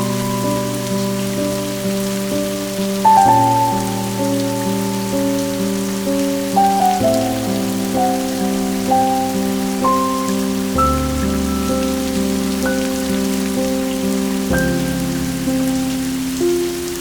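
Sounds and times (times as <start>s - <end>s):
rain hiss: 0.0s - 17.0s
soft slow background music: 0.0s - 17.0s.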